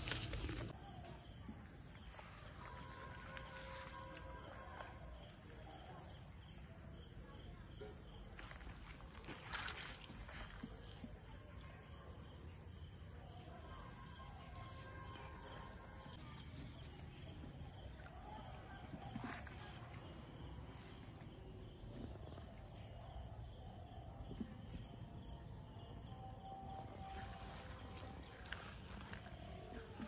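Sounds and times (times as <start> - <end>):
faint outdoor background: 0.0 - 30.0
insects chirping: 0.0 - 30.0.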